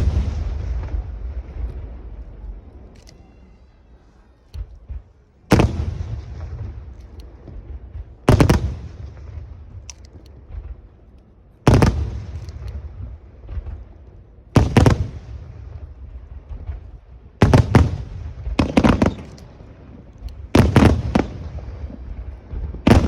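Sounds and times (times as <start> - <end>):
faint fireworks pops: 0.0 - 23.0
fireworks bursting with echo: 0.0 - 23.0.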